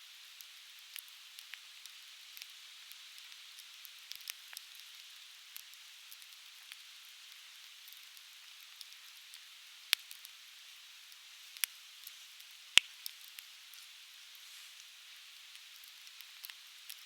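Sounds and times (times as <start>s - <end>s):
firewood crackling in open fire: 0.3s - 17.0s.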